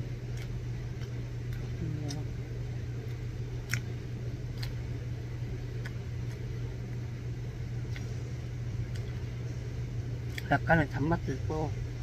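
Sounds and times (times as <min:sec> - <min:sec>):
refrigeration equipment hum: 0:00.0 - 0:12.0.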